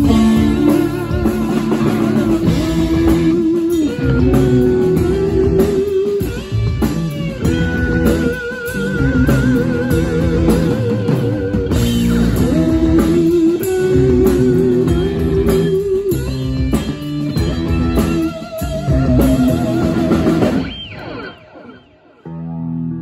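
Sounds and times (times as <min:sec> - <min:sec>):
bass guitar: 0:00.0 - 0:23.0
drums: 0:00.0 - 0:23.0
electric guitars: 0:00.0 - 0:23.0
lap steel guitar sliding notes: 0:00.0 - 0:23.0.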